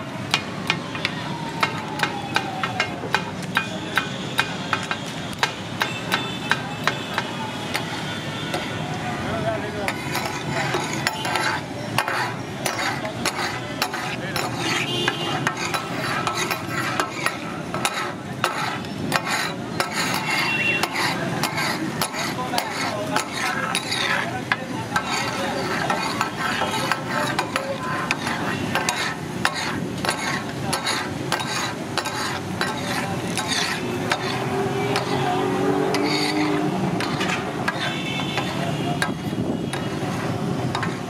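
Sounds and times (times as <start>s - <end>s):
metal spatulas clacking on griddle: 1.6s - 8.7s, 9.8s - 35.2s, 35.9s - 40.0s, 40.7s - 41.0s.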